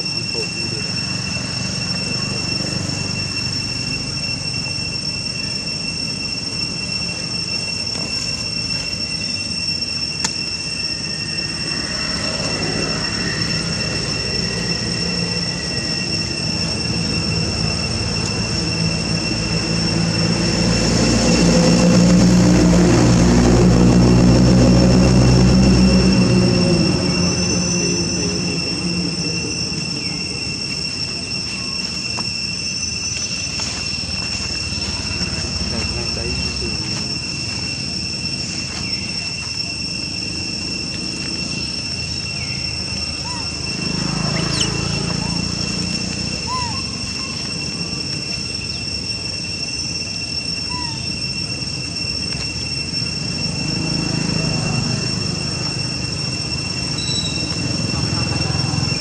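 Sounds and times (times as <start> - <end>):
insects droning: 0.0 - 59.0
low vehicle engine hum: 0.0 - 59.0.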